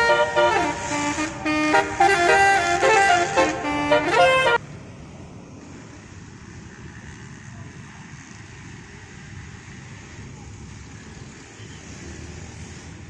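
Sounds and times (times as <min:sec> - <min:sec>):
road vehicles rumbling: 0:00.0 - 0:13.0.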